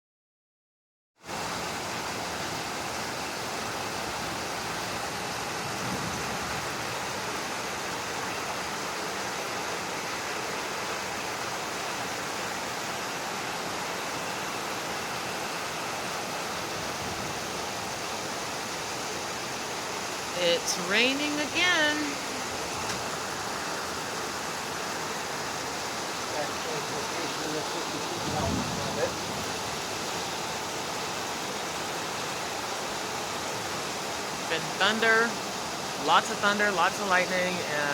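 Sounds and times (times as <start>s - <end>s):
heavy rain on a tin roof: 1.2s - 37.9s.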